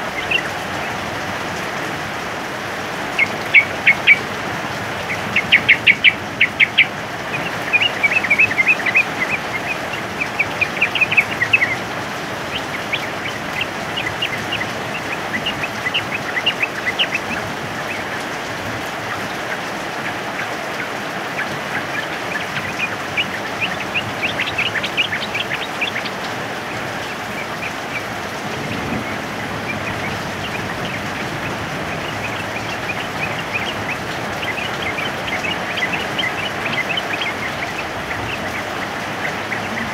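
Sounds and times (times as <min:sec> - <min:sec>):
bulbuls chattering: 0:00.0 - 0:39.9
heavy rain hissing: 0:00.0 - 0:39.9.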